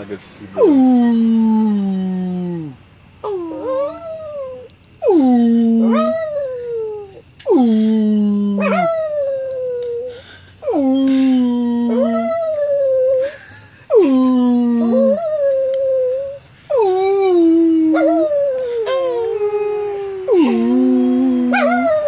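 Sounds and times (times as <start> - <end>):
dogs howling: 0.6 - 13.3, 14.0 - 22.0
man howling: 0.6 - 22.0.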